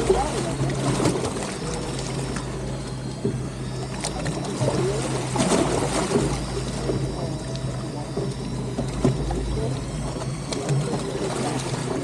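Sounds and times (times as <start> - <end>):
low boat engine hum: 0.0 - 12.0
water washing against hull: 0.0 - 12.0.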